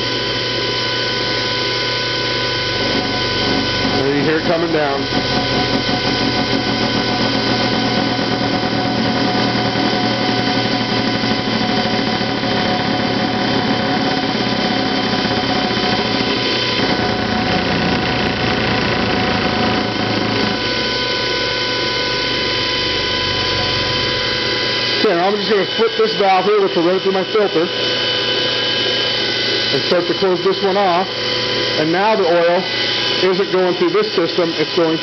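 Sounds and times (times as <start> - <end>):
centrifuge machine whine: 0.0 - 35.0.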